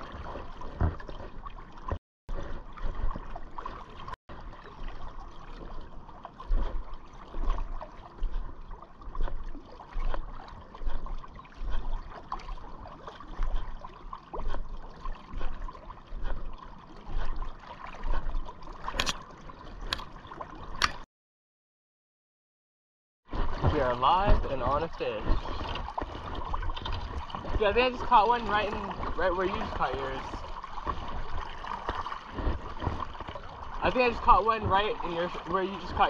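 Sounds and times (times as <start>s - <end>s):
river water lapping and trickling: 0.0s - 21.1s, 23.2s - 36.0s.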